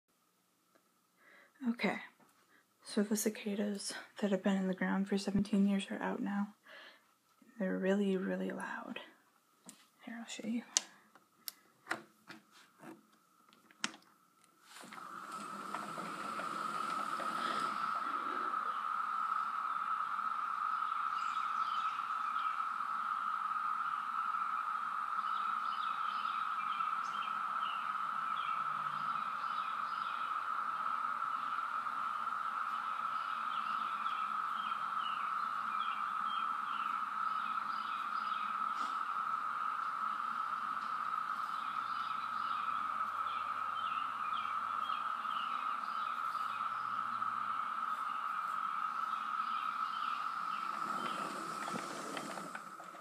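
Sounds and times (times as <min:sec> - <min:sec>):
cicadas droning: 0:00.2 - 0:53.0.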